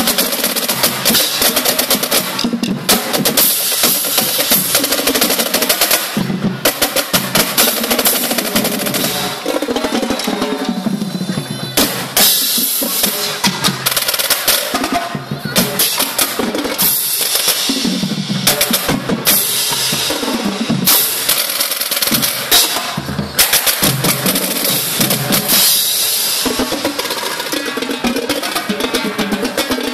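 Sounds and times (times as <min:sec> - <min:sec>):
marching drums playing cadence: 0:00.0 - 0:29.9.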